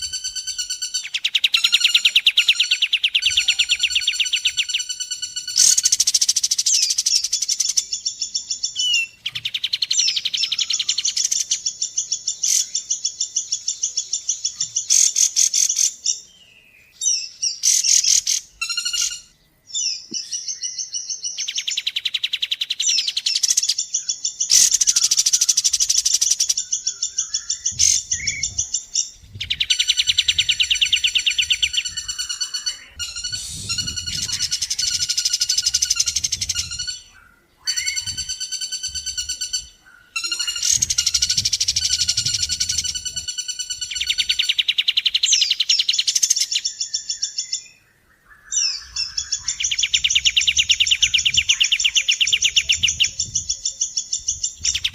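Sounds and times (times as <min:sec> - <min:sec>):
bird calls with rapid trills: 0:00.0 - 0:54.9.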